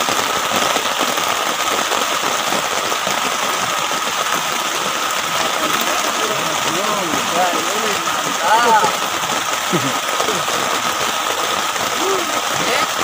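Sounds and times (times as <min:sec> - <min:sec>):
heavy rain on a tent: 0:00.0 - 0:13.0.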